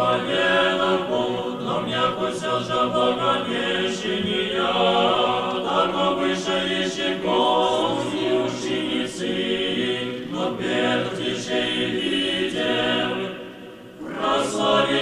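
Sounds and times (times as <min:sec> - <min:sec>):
church choir chanting a cappella: 0:00.0 - 0:15.0.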